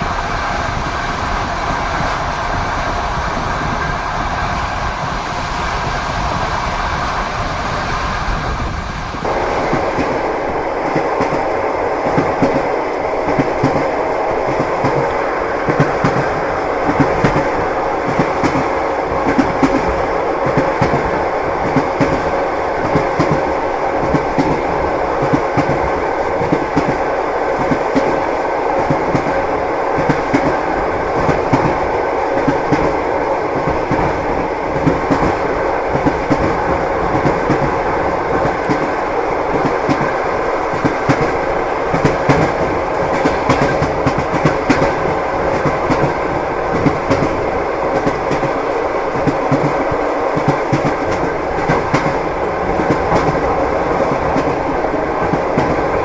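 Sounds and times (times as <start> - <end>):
train wheels clickety-clack: 0.0 - 7.3, 9.2 - 56.0
train carriage rumble: 0.0 - 56.0.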